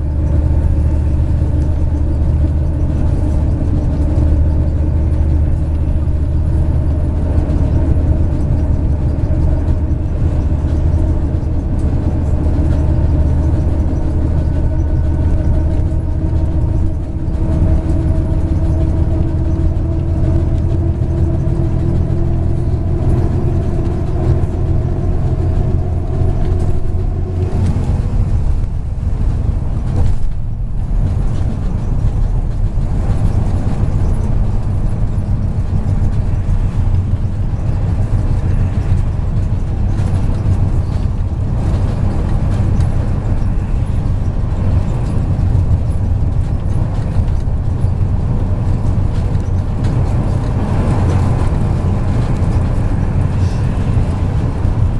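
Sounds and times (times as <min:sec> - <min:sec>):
bus engine running: 0:00.0 - 0:54.9
road noise: 0:00.0 - 0:54.9.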